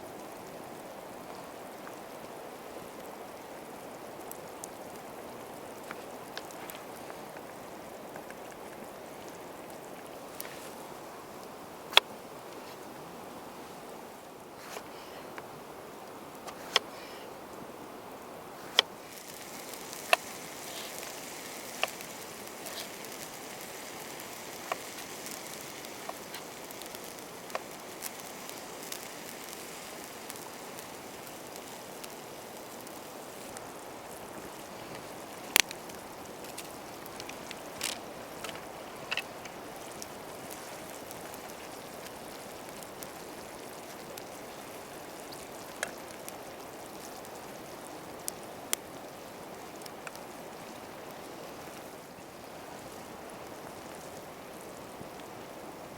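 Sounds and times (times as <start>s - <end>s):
campfire crackling: 0.0s - 55.9s
steady rushing hiss: 0.0s - 55.9s.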